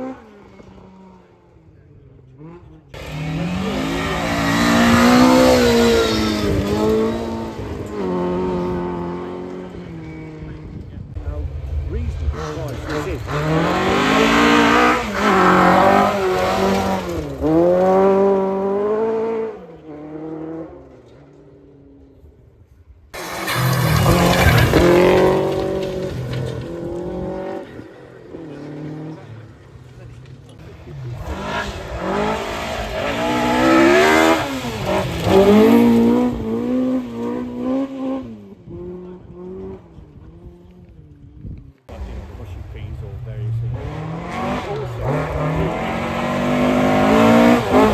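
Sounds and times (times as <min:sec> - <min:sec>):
rally car engine accelerating hard: 0:00.0 - 0:21.4, 0:23.2 - 0:47.9.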